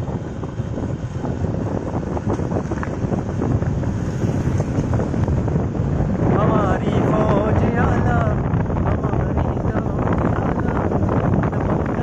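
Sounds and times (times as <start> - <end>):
vehicle road and engine noise: 0.0 - 12.0
wind blowing across microphone: 0.0 - 12.0.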